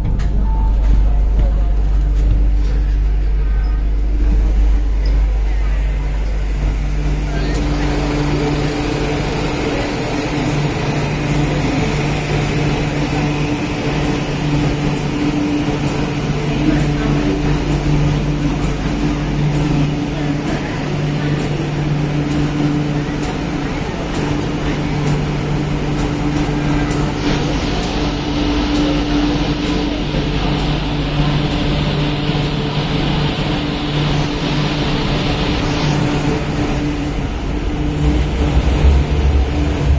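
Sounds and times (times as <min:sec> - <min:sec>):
constant rushing noise: 0:00.0 - 0:39.9
train electrical hum: 0:00.0 - 0:39.9.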